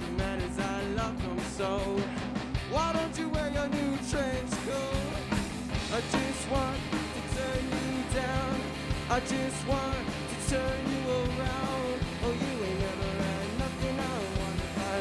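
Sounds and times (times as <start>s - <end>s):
drum kit steady beat: 0.0s - 15.0s
electric bass: 0.0s - 15.0s
electric guitars: 0.0s - 15.0s.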